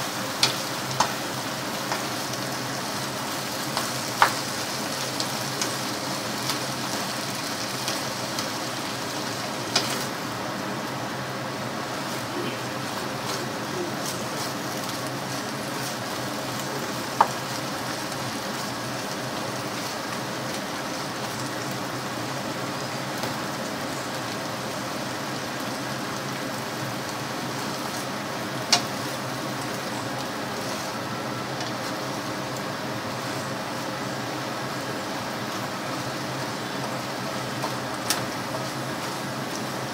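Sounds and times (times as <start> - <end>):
meat and vegetables sizzling in pan: 0.0 - 39.9.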